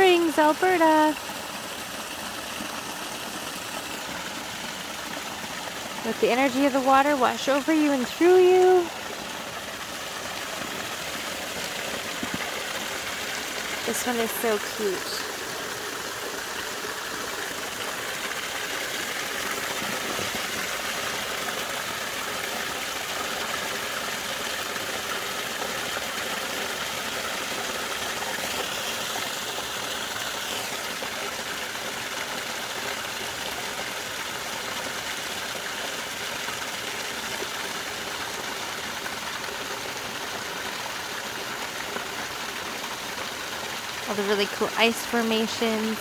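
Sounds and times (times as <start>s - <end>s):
small waterfall splashing over ice: 0.0s - 46.0s.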